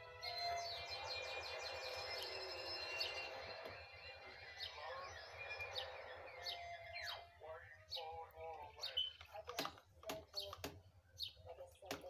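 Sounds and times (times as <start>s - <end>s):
canary singing trills: 0.0s - 9.6s, 10.2s - 12.0s.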